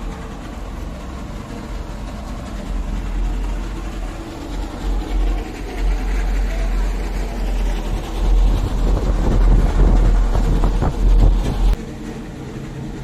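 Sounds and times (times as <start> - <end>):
loud low rumble on microphone: 0.0 - 13.0.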